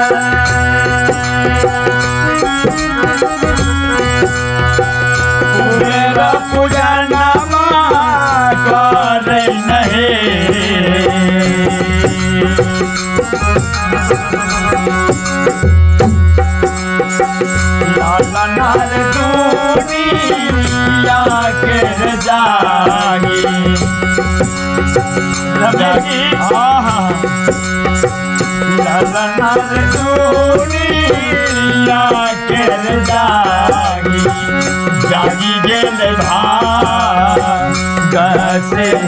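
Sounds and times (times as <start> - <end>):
man singing: 0.0 - 15.5, 17.4 - 39.0
hand drum beating rhythm: 0.0 - 39.0
harmonium chords: 0.0 - 39.0.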